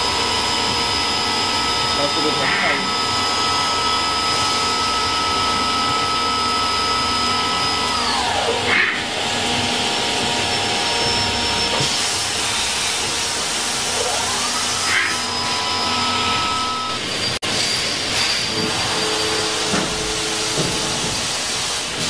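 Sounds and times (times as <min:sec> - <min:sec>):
machine spindle whine: 0:00.0 - 0:22.0.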